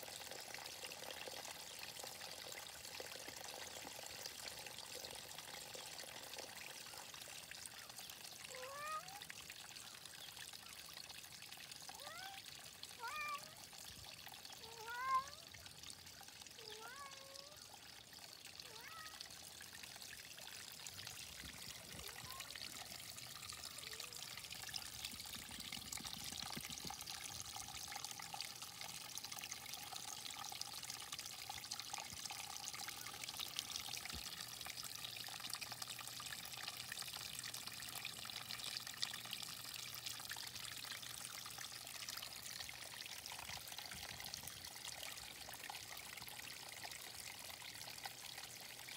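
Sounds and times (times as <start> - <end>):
water trickling into a pond: 0.0 - 48.9.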